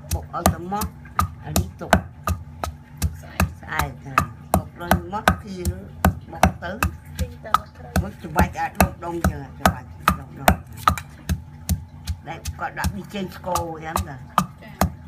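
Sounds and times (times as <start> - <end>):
pestle pounding in stone mortar: 0.0 - 15.0.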